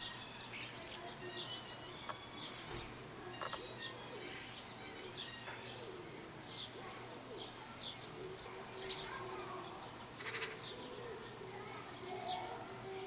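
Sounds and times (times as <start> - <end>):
quiet outdoor background noise: 0.0 - 13.0
small birds chirping: 0.0 - 13.0.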